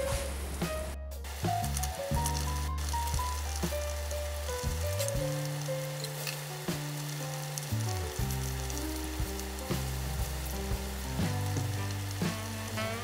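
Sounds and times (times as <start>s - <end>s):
background music with bass: 0.0s - 13.0s
broth boiling and bubbling: 1.3s - 13.0s.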